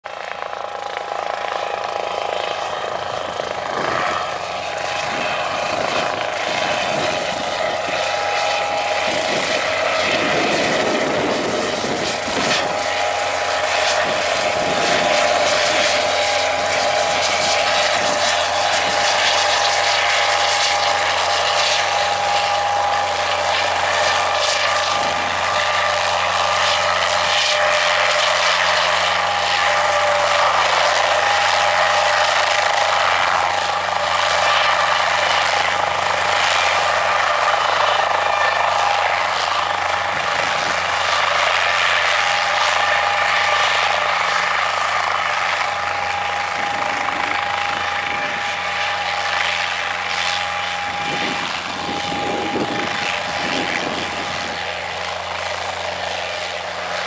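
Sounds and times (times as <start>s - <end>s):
helicopter engine and rotors: 0.0s - 57.0s
steady whine: 0.1s - 57.0s.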